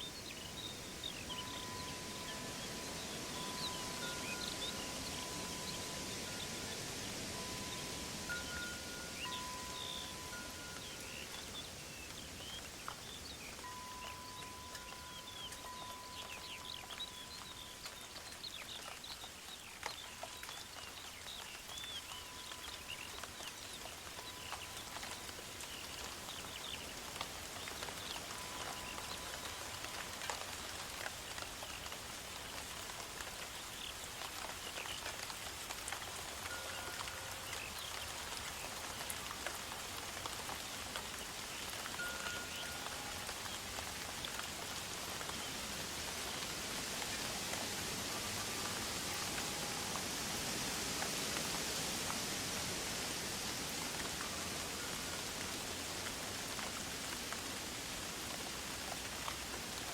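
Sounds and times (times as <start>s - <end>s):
birds chirping: 0.0s - 31.0s, 31.6s - 57.6s
rain-like hiss: 0.0s - 59.9s.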